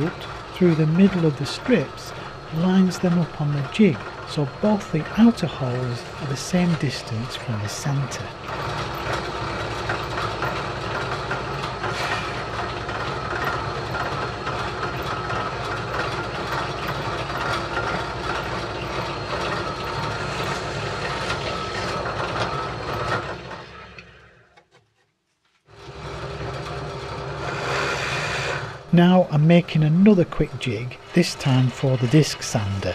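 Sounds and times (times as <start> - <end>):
machine running: 0.0 - 24.5, 25.7 - 32.9
drill press drilling plywood: 0.0 - 24.6, 25.7 - 28.9, 29.6 - 32.9.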